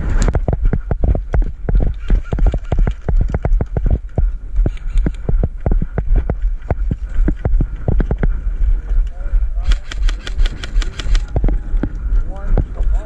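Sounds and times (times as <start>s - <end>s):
quick footsteps: 0.0s - 13.0s
wind rumble on microphone: 0.0s - 13.0s.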